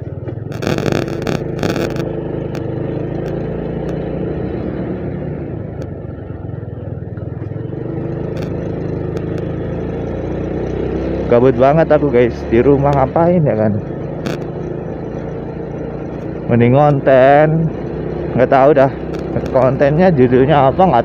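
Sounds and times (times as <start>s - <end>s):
motorbike engine running: 0.0s - 21.0s
road noise: 0.0s - 21.0s.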